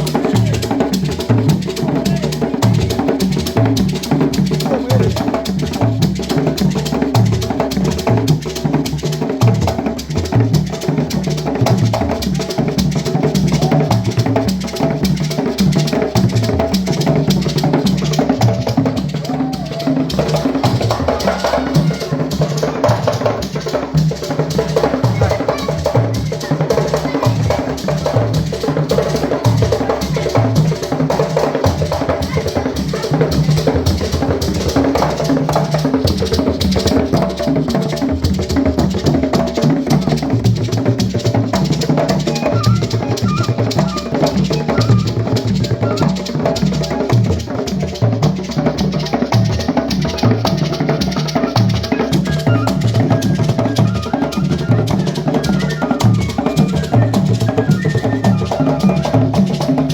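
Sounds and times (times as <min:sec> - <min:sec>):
drums playing steady rhythm: 0:00.0 - 0:59.9.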